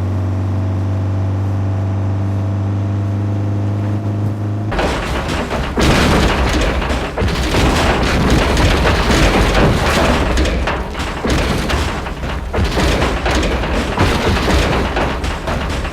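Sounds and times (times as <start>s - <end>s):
car engine rough rumble: 0.0s - 15.9s.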